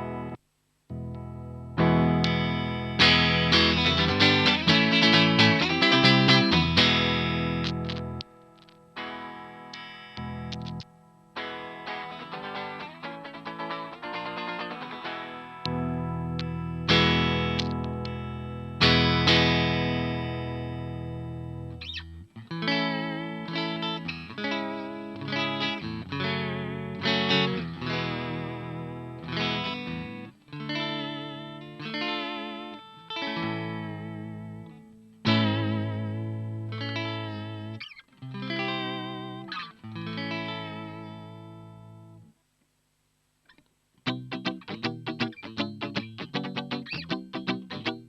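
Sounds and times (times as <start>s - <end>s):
electric guitar through amplifier: 0.0s - 48.0s.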